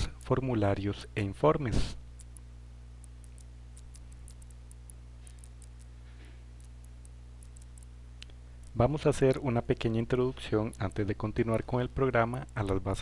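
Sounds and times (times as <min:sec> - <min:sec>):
low electrical hum: 0:00.0 - 0:13.0
faint ticks: 0:02.2 - 0:13.0.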